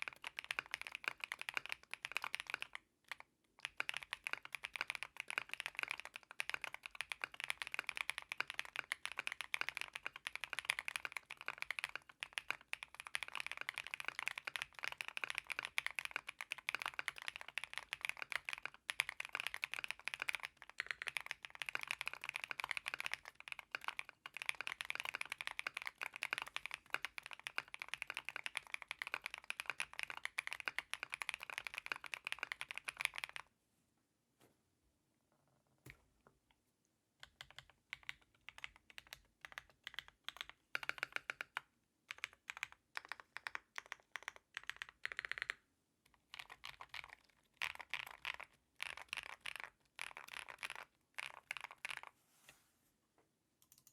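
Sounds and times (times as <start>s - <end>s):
mechanical keyboard typing: 0.0s - 33.5s, 37.2s - 52.1s, 53.6s - 53.9s.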